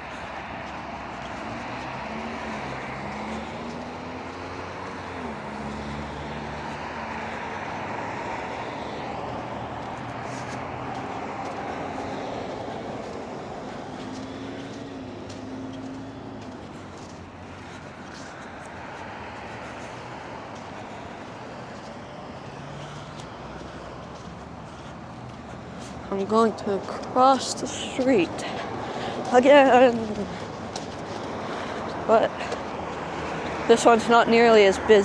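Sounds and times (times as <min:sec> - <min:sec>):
engine hum of passing vehicles: 0:00.0 - 0:35.0
tyre noise of passing vehicles: 0:00.0 - 0:35.0.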